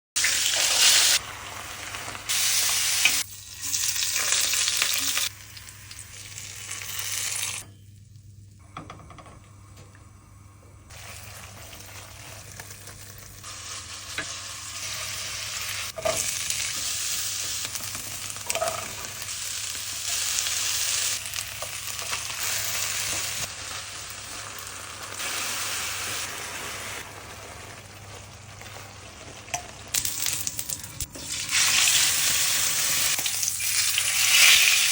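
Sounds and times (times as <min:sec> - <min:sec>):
food sizzling in a pan: 0:00.2 - 0:07.6, 0:10.9 - 0:34.9.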